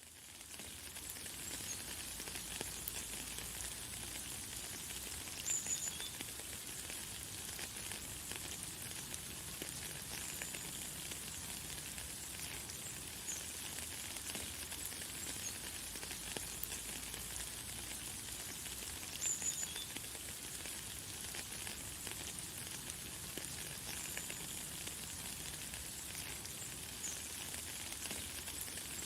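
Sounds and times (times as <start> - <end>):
light rain pattering: 0.0 - 29.0.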